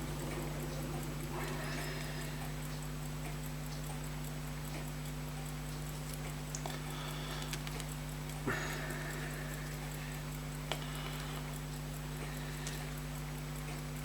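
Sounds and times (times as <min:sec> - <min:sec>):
faint even ticking: 0:00.0 - 0:14.0
low electrical hum: 0:00.0 - 0:14.0.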